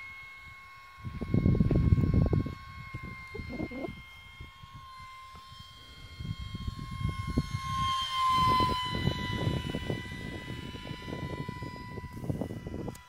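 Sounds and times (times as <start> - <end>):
electric fan motor whining: 0.0 - 13.0
wind rumble on microphone: 1.0 - 13.0.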